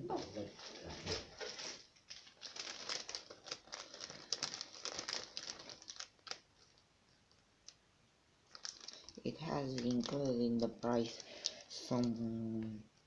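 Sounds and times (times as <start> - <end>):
plastic packaging crinkling: 0.1 - 7.8, 8.4 - 12.3.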